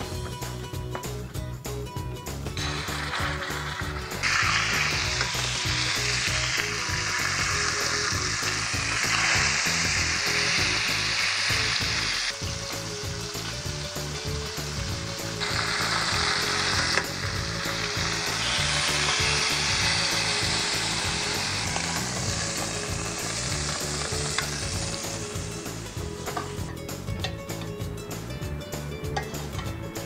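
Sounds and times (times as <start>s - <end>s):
meat sizzling in hot oil: 2.2s - 28.3s.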